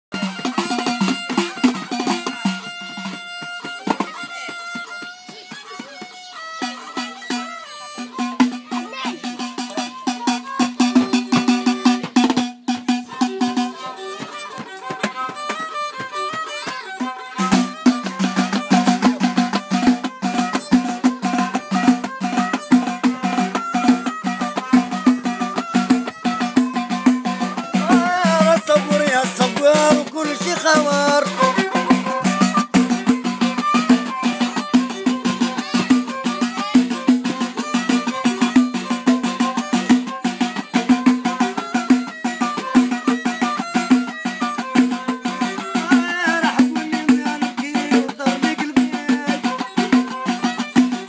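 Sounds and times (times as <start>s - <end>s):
frame drums beating: 0.1s - 51.0s
violin short repeated notes: 0.1s - 51.0s.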